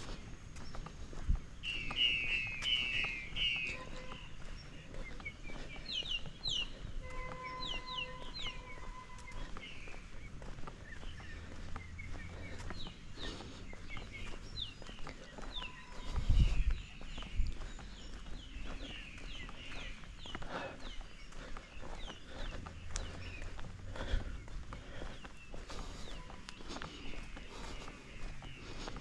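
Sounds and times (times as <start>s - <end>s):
birds twittering and chirping: 0.0s - 29.0s.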